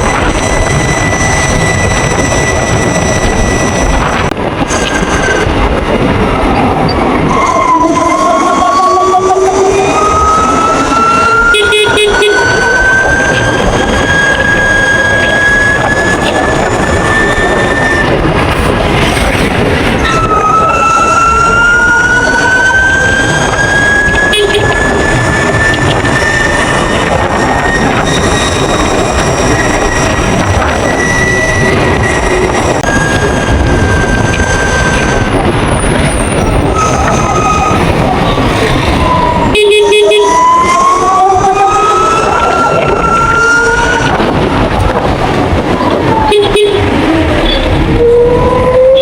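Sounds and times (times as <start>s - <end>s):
loud rushing noise: 0.0s - 49.0s
wind and road noise: 0.0s - 49.0s.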